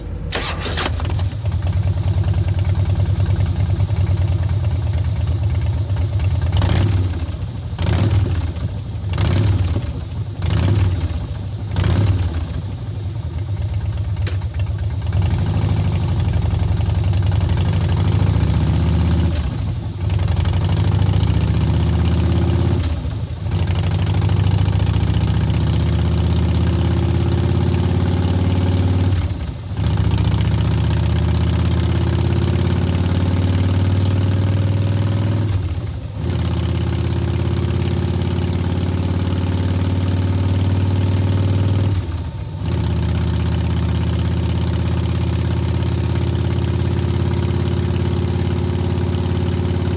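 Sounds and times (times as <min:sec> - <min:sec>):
motorcycle engine revving: 0:00.0 - 0:12.8, 0:15.0 - 0:49.9
motorcycle engine idling: 0:00.0 - 0:27.9, 0:29.2 - 0:49.9.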